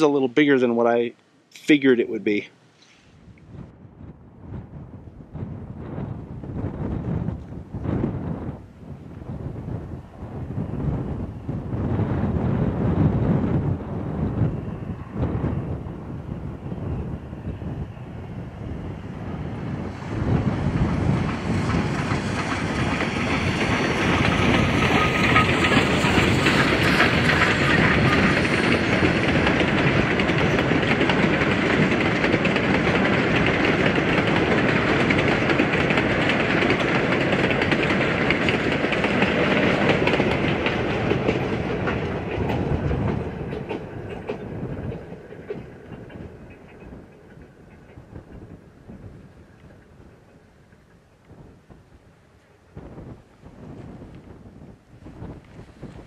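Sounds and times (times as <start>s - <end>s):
train wheels on rails: 5.4s - 56.0s.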